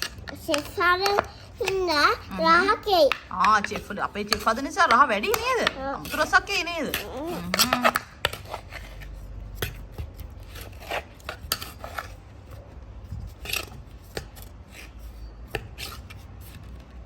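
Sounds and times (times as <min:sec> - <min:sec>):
spoon scraping clay pot: 0:00.0 - 0:16.9.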